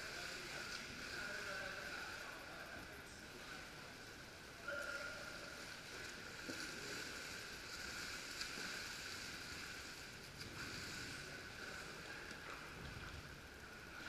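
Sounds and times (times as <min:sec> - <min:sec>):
echoing indoor pool ambience: 0:00.0 - 0:14.0
water splashing around kayak: 0:00.0 - 0:14.0.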